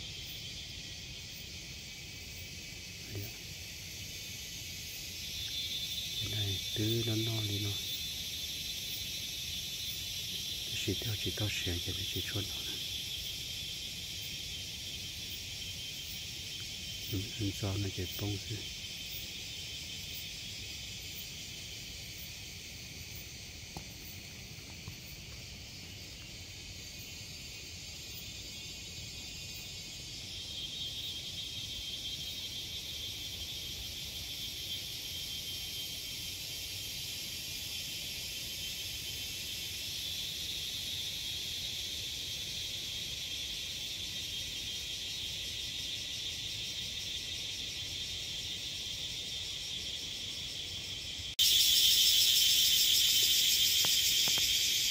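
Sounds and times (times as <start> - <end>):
forest insects buzzing: 0.0 - 54.9.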